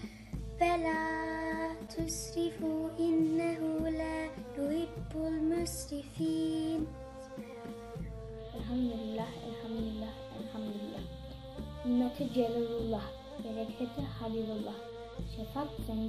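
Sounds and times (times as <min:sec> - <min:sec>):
low musical accompaniment: 0:00.0 - 0:16.0.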